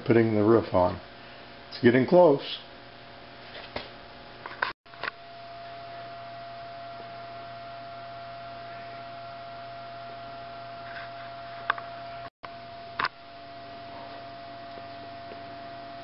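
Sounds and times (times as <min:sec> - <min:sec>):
electrical hum: 0:00.0 - 0:16.0
thin steady whine: 0:00.0 - 0:16.0.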